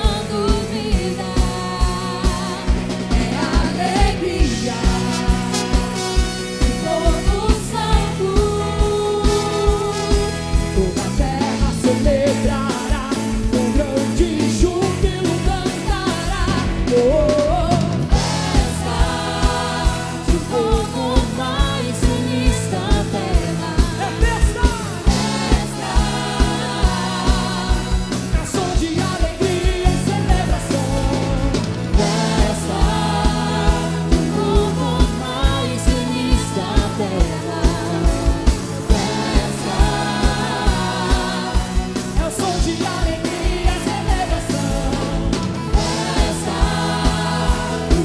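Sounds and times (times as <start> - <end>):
gospel band playing: 0.0 - 48.0
people singing: 0.0 - 48.0.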